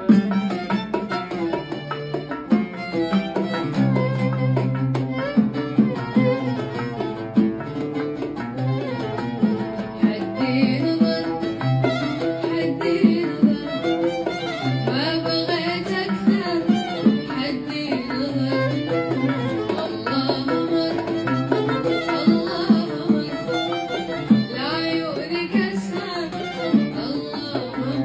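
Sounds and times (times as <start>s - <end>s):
hand drum strokes: 0.0s - 28.0s
oud: 0.0s - 28.0s
violin: 0.0s - 28.0s.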